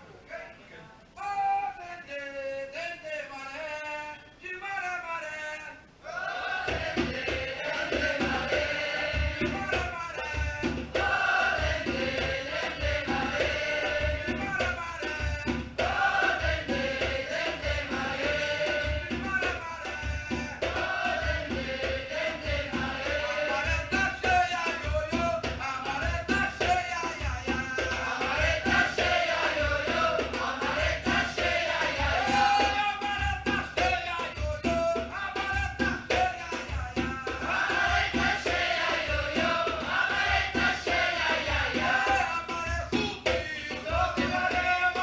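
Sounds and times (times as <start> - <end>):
voices singing: 5.7 - 45.0
samba drum ensemble: 6.0 - 45.0.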